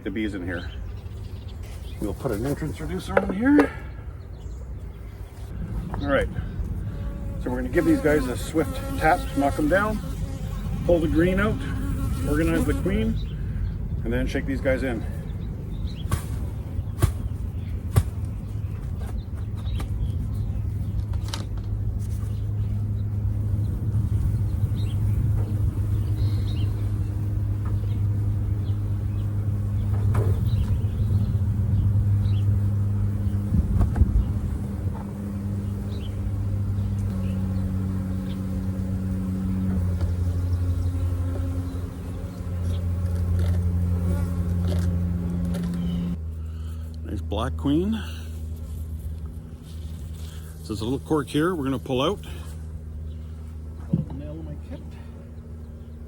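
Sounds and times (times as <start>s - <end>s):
honeybees buzzing: 0.0s - 18.8s, 19.7s - 56.0s
steady low hum: 0.0s - 56.0s.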